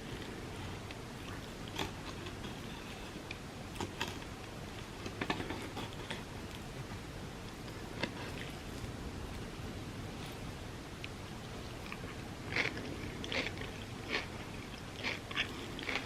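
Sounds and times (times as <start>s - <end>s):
person chewing food: 0.0s - 6.7s, 7.5s - 8.9s, 11.0s - 16.0s
low background hum: 0.0s - 16.0s.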